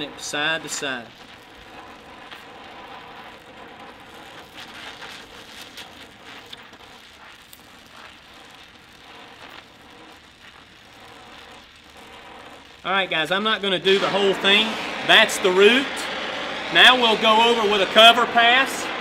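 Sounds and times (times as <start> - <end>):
crackles and snaps of molten metal: 0.0 - 16.7
welding torch flame hissing: 0.0 - 19.0.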